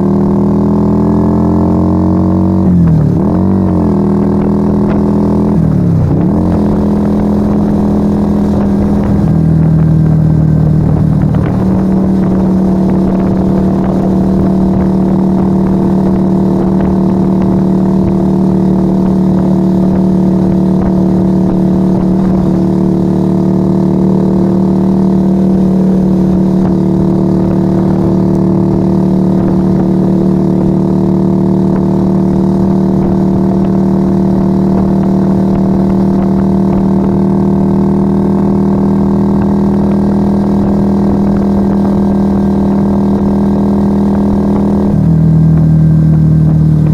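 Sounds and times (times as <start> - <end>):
motorcycle engine running loud: 0.0 - 46.9.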